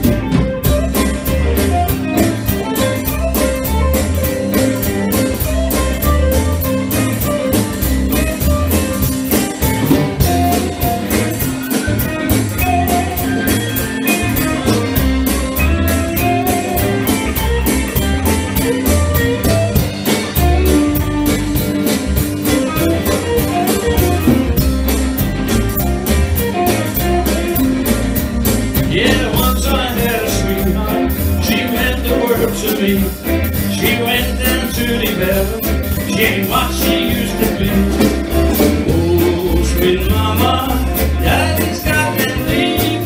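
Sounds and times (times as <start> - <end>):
bass guitar: 0.0 - 43.0
drum kit steady beat: 0.0 - 43.0
electric guitar lines: 0.0 - 43.0.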